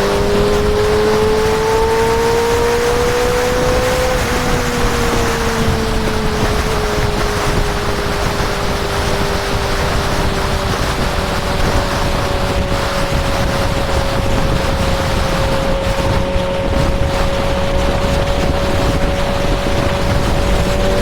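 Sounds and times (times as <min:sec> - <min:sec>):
motorcycle engine cruising: 0:00.0 - 0:21.0
wind rush on microphone: 0:00.0 - 0:21.0.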